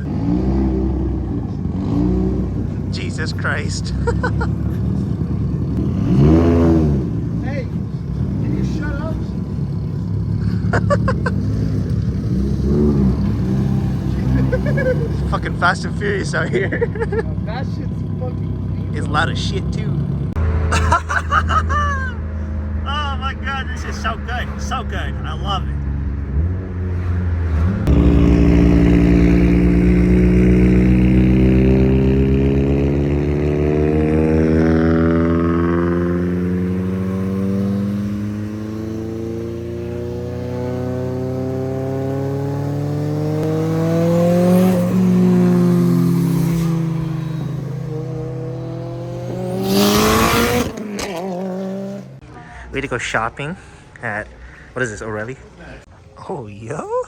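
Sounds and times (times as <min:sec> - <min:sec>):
car engine revving: 0:00.0 - 0:53.2.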